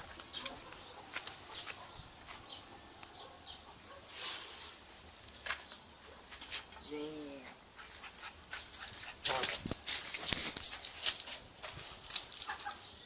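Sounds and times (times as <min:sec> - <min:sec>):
footsteps on ground: 0:00.0 - 0:02.7, 0:04.6 - 0:12.9
rustle: 0:00.0 - 0:13.0.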